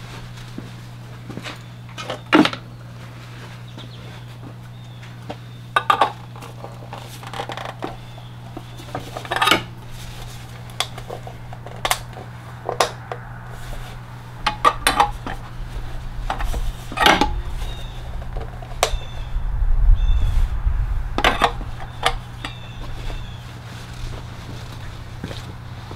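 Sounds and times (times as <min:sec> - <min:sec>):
low hum: 0:02.6 - 0:25.9.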